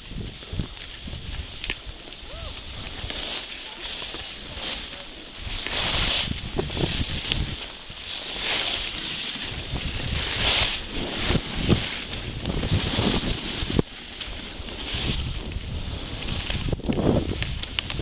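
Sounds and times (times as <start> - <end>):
wind buffeting the microphone: 0.0 - 3.5, 4.1 - 18.0
ski edges scraping through snow: 0.0 - 18.0.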